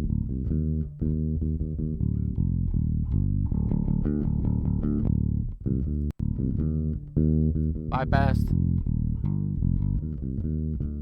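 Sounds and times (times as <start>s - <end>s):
electric bass guitar notes: 0.0s - 11.0s.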